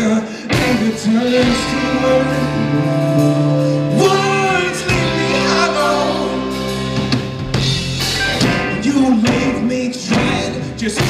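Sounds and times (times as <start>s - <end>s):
live band playing chords: 0.0s - 11.0s
person singing: 0.0s - 11.0s
drum kit hits: 0.6s - 11.0s.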